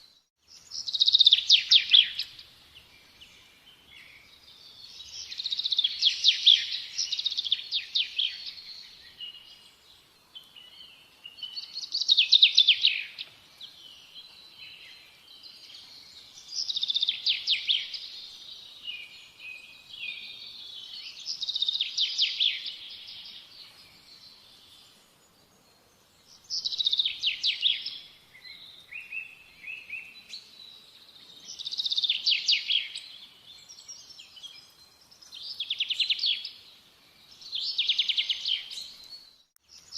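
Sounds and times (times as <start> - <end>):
birds singing trills: 0.0 - 39.9.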